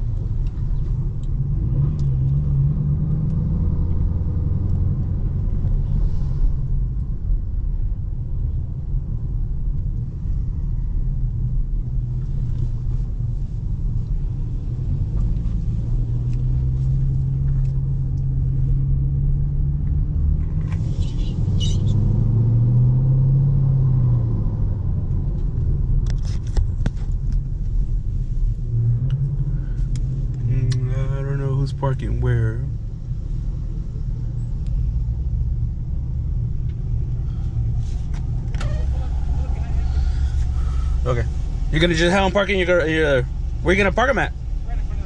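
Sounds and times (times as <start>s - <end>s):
car engine accelerating: 0.0s - 45.0s
road rumble: 0.0s - 45.0s.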